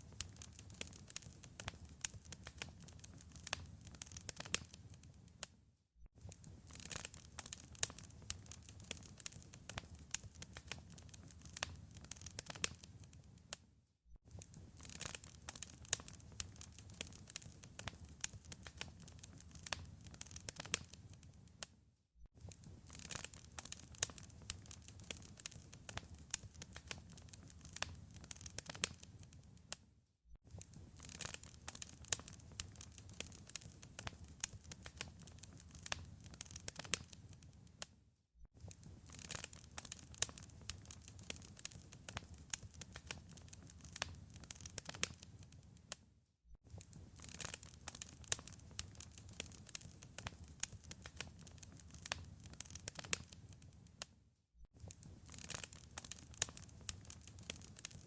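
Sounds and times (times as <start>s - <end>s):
wood fire crackling: 0.0s - 5.4s, 6.2s - 13.6s, 14.3s - 21.6s, 22.4s - 29.8s, 30.5s - 37.8s, 38.6s - 46.0s, 46.7s - 54.1s, 54.8s - 58.0s.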